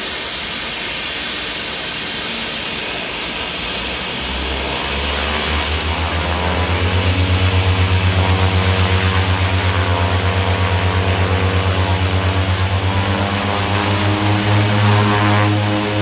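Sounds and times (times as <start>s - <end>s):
propeller plane engines throbbing: 0.0s - 16.0s.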